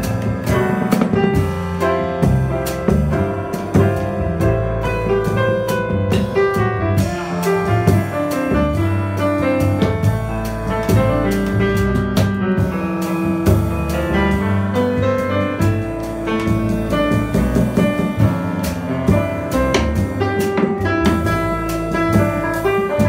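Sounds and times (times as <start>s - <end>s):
drum kit strokes: 0.0s - 23.0s
piano: 0.0s - 23.0s
plucked upright bass: 0.0s - 23.0s.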